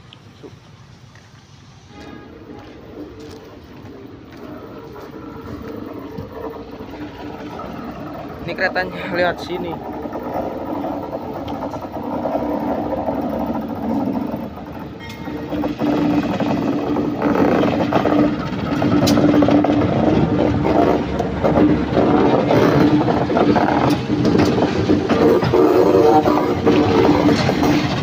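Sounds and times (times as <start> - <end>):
diesel locomotive engine humming: 0.0 - 28.0
wheels clicking over rails: 1.9 - 28.0.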